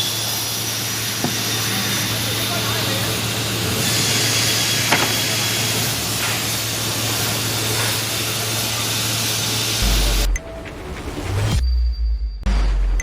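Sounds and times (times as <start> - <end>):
woodworking machine hissing and humming: 0.0 - 11.6.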